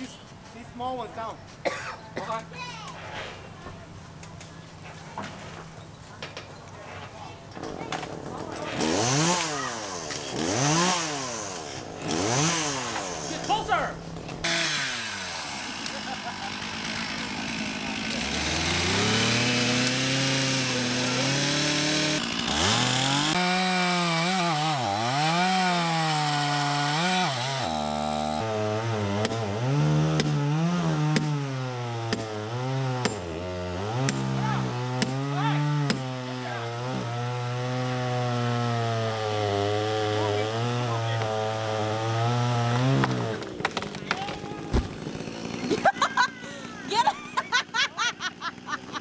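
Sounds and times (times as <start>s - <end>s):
chainsaw cutting wood: 7.6s - 49.0s.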